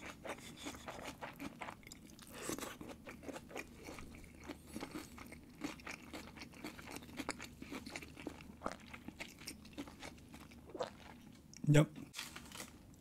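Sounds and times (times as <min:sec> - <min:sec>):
person chewing food: 0:00.0 - 0:12.6.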